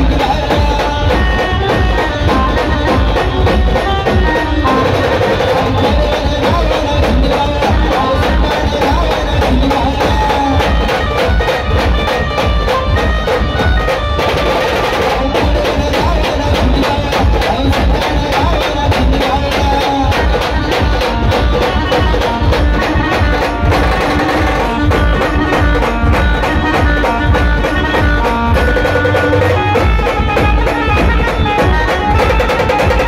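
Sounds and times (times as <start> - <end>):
band music over loudspeaker: 0.0 - 33.0
fast drum beat: 0.0 - 33.0.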